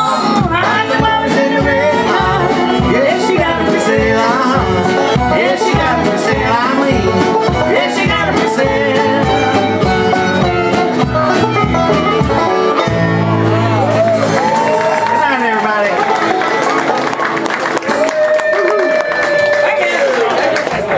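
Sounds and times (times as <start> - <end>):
bluegrass band playing: 0.0 - 20.9.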